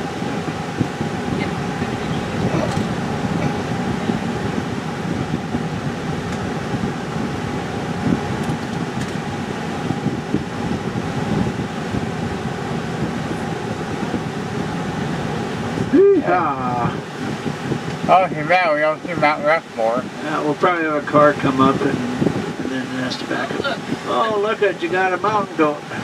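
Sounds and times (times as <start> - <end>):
engine and road noise in cab: 0.0 - 26.0.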